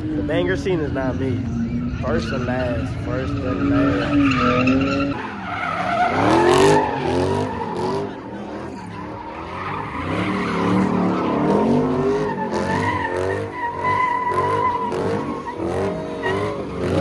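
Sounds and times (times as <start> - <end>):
car engine revving: 0.0 - 17.0
tyres skidding and squealing: 0.0 - 17.0.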